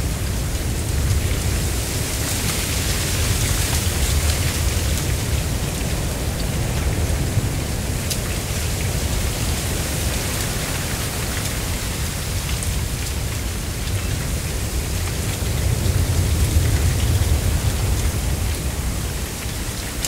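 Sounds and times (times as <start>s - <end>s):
low wind rumble: 0.0s - 20.0s.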